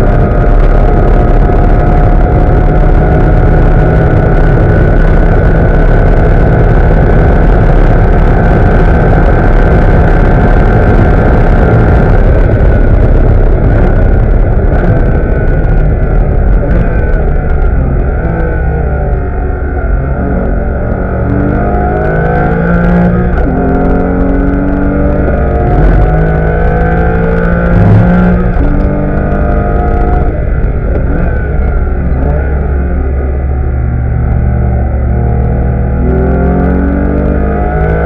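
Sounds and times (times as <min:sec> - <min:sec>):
car engine at full throttle: 0:00.0 - 0:38.0
wind and road noise: 0:00.0 - 0:38.0.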